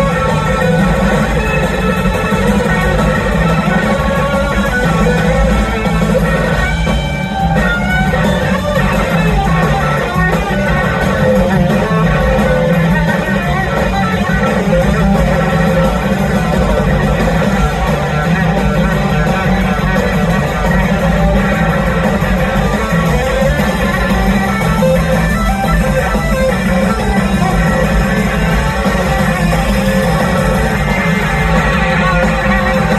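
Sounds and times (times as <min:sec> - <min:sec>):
electric guitar bending notes: 0:00.0 - 0:32.9
live rock band playing: 0:00.0 - 0:32.9.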